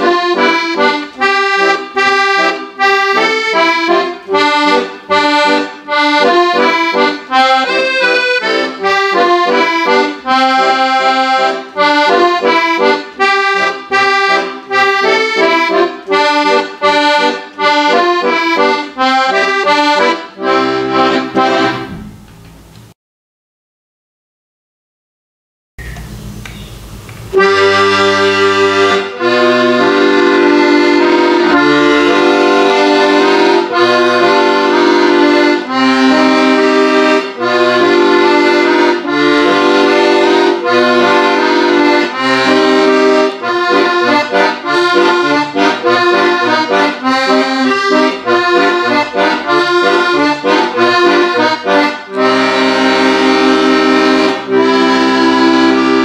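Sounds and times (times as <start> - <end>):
piano accordion playing: 0.0 - 22.2, 27.3 - 56.0.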